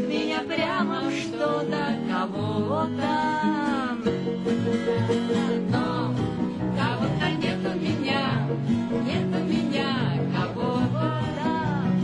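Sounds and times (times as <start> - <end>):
song with plucked guitar: 0.0 - 12.0.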